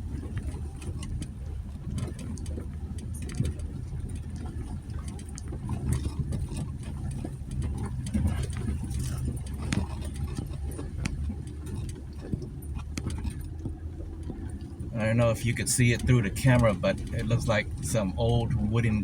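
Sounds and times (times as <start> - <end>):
suspension clicks and knocks: 0.0 - 19.0
truck engine humming: 0.0 - 19.0.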